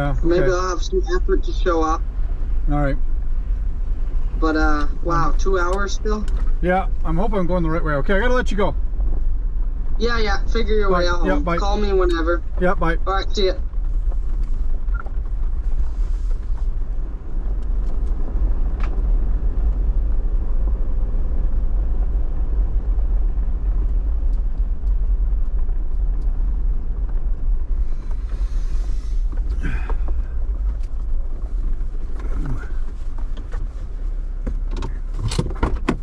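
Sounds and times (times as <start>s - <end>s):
engine and road noise rumble: 0.0s - 36.0s.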